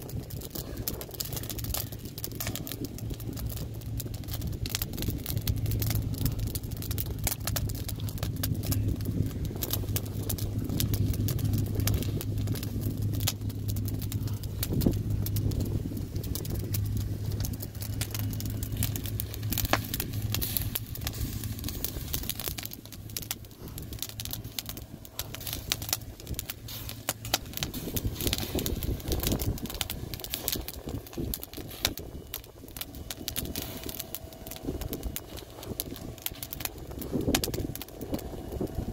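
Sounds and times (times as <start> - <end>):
steady low hum: 0.0 - 38.9
wood fire crackling and popping: 0.0 - 38.9.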